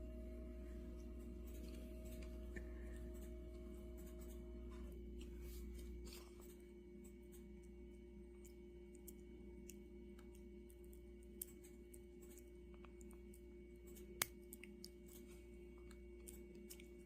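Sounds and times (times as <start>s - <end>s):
quiet steady hum: 0.0s - 17.0s.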